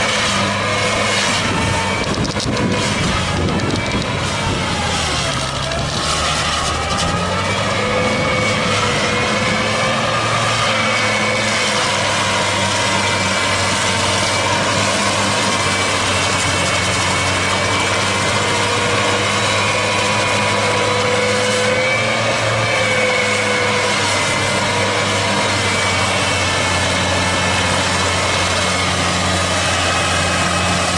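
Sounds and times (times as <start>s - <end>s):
heavy farm machinery engine: 0.0s - 30.9s
high wavering whine: 0.0s - 30.9s.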